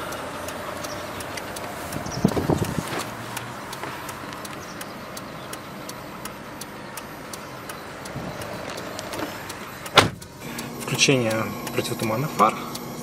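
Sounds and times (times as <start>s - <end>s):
steady mechanical ticking: 0.0s - 13.0s.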